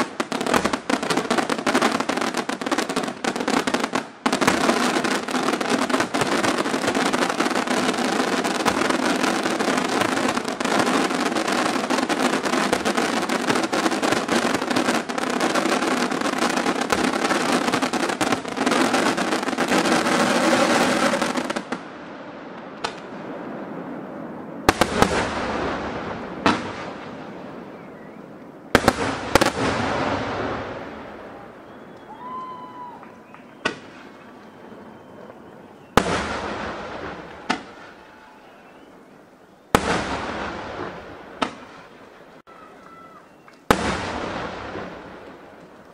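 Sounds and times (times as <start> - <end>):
loud firework bangs echoing: 0.0 - 22.0, 22.8 - 27.9, 28.7 - 38.9, 39.7 - 42.1, 43.7 - 45.6
fireworks bursting and crackling: 0.0 - 45.9.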